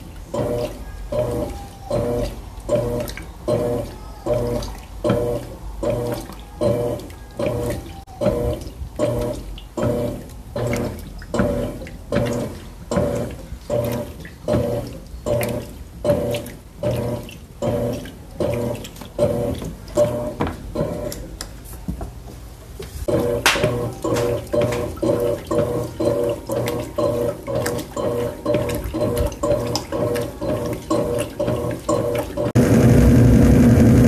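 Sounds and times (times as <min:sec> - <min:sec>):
washing machine motor humming: 0:00.0 - 0:21.4, 0:22.5 - 0:34.0
water sloshing in tub: 0:00.0 - 0:32.6.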